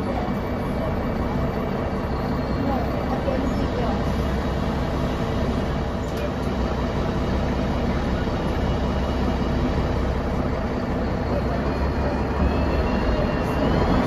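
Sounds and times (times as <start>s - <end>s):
bus engine droning: 0.0s - 14.0s.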